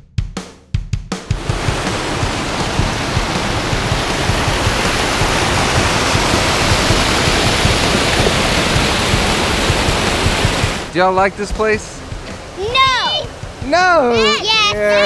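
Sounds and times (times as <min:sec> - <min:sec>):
water rushing over waterfall: 0:01.4 - 0:15.0.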